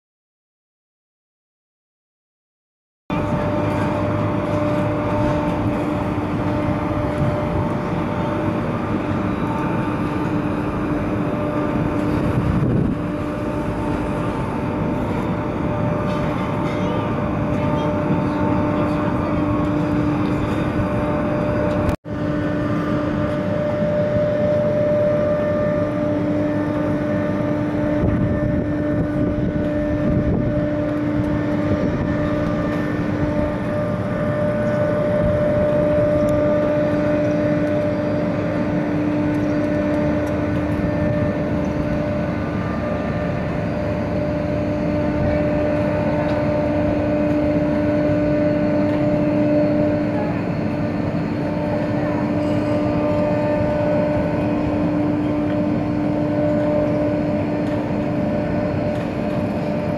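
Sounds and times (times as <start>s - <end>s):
jet engines whining at taxi power: 3.1s - 59.9s.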